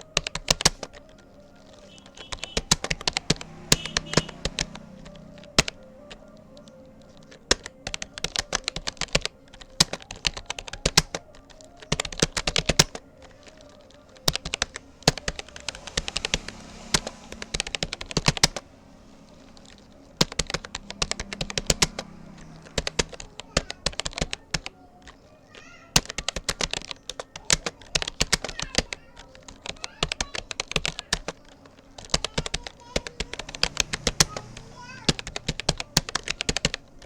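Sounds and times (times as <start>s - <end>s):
keyboard typing clicks: 0.0s - 37.0s.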